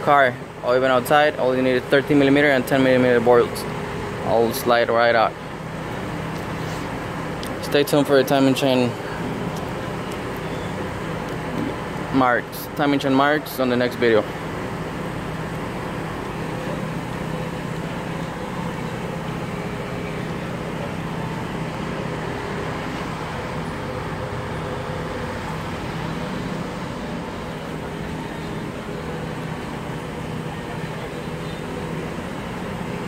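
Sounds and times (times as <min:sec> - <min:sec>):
constant low hum: 0:00.0 - 0:33.0.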